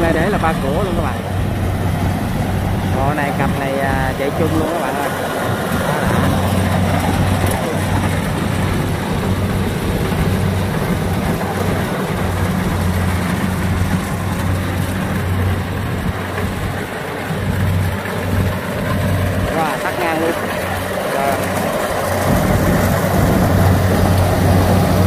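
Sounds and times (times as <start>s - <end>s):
combine harvester engines droning: 0.0s - 25.0s.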